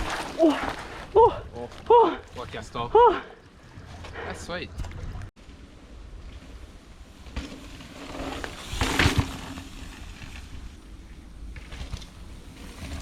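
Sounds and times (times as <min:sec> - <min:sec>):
bike tyres rushing on dirt: 0:00.0 - 0:04.5, 0:05.4 - 0:13.0.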